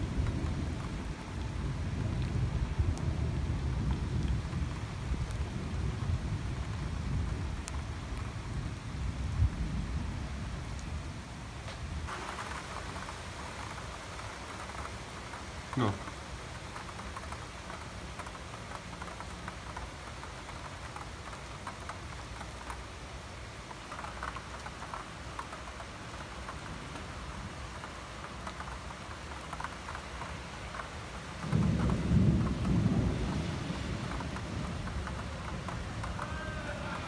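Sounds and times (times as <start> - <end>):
raindrops ticking: 0.0 - 9.6, 11.5 - 37.0
thunder rumbling: 0.0 - 10.7, 11.8 - 22.3, 24.0 - 37.0
steady rain: 0.0 - 37.0.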